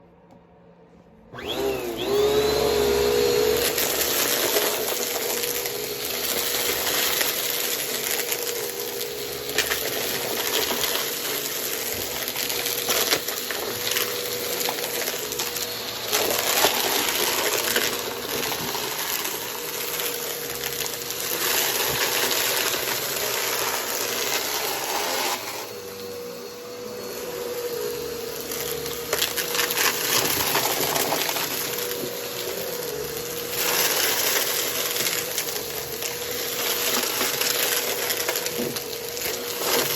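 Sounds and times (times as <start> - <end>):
vacuum cleaner motor whining: 1.2 - 39.9.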